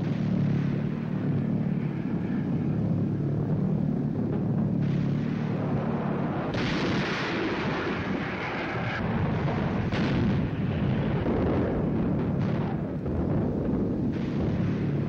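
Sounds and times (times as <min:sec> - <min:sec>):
anti-aircraft gunfire barrage: 0:00.0 - 0:15.0.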